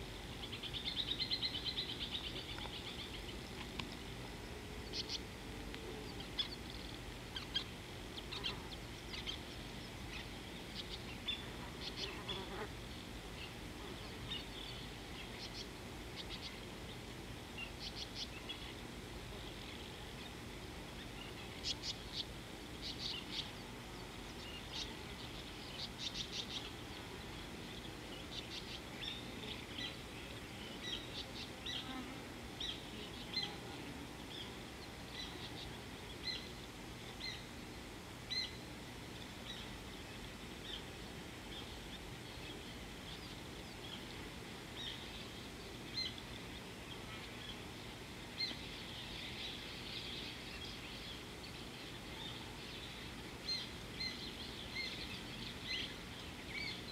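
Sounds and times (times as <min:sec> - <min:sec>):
steady low background noise: 0:00.0 - 0:56.9
wild birds chirping: 0:00.0 - 0:56.9.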